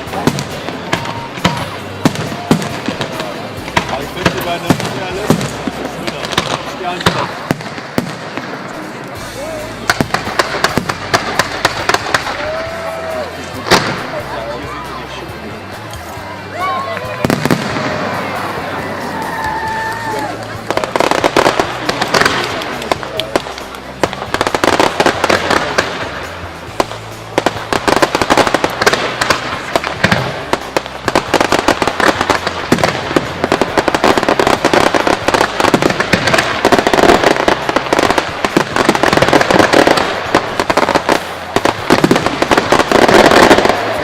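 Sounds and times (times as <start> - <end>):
fireworks banging and crackling: 0.0 - 44.0.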